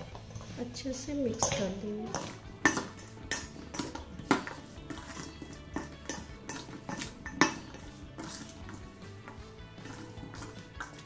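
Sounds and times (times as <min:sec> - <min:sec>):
spoon clinking against steel bowl: 0:01.3 - 0:11.0.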